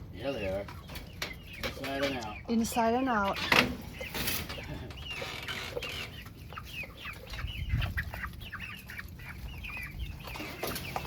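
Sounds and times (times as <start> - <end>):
chickens peeping and clucking: 0.0 - 11.0.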